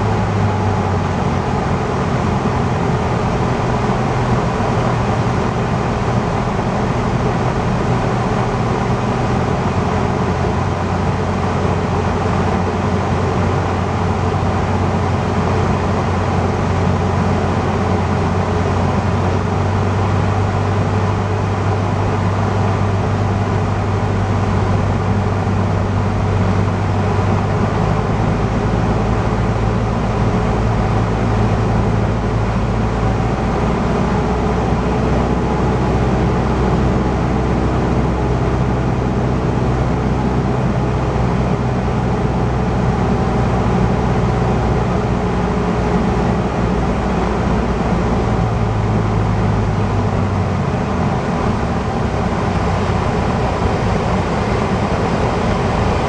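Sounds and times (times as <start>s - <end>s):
light aircraft engine droning: 0.0s - 56.0s
cabin airflow noise: 10.8s - 56.0s.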